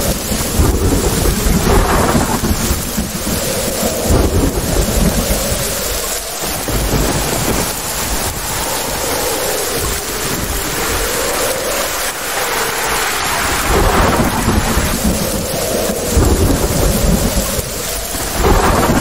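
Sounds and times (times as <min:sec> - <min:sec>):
heavy rain: 0:00.0 - 0:19.0
rolling thunder: 0:00.0 - 0:19.0.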